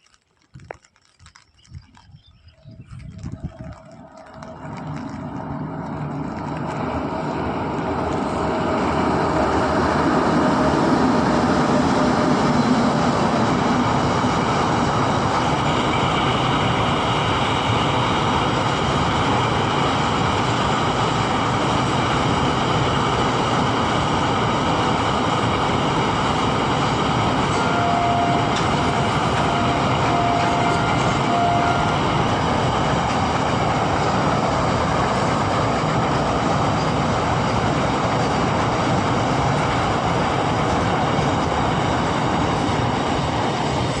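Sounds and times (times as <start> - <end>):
passenger train running: 1.8 - 44.0.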